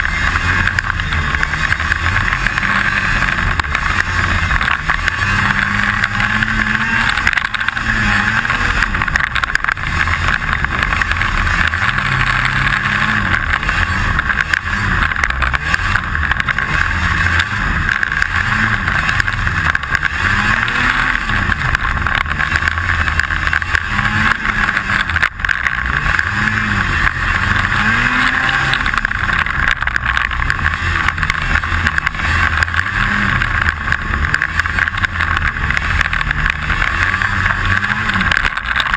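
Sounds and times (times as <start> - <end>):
snowmobile engine revving: 0.0 - 38.9
steady rattle: 0.0 - 38.9.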